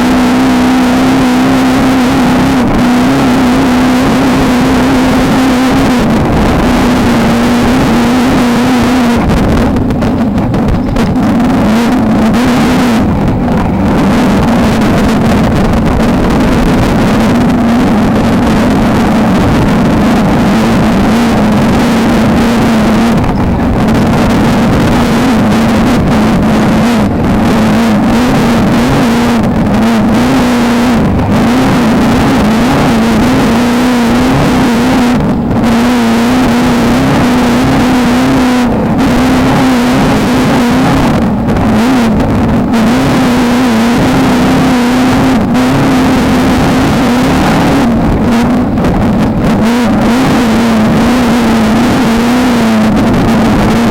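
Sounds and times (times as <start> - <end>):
race car engine at high revs: 0.0 - 53.9
rushing noise: 0.0 - 53.9.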